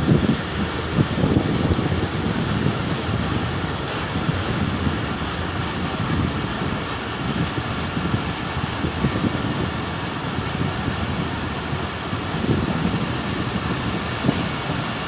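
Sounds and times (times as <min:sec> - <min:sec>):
passenger train rumbling on track: 0:00.0 - 0:15.0.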